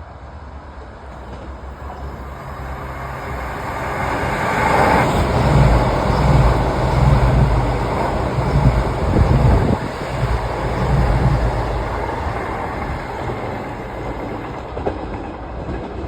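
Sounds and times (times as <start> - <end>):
trains passing at speed: 0.0 - 16.0
pulsing diesel engine drone: 1.3 - 14.8.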